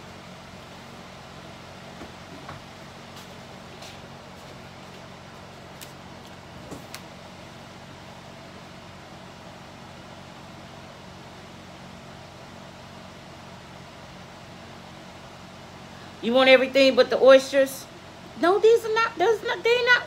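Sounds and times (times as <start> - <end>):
appliance hum and hiss: 0.0 - 20.0.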